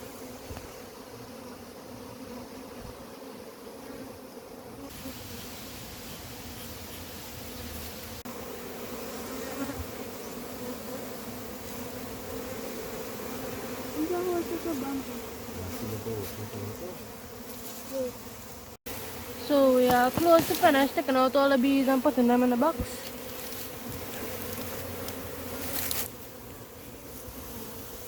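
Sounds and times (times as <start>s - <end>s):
honey bees buzzing: 0.0s - 28.0s.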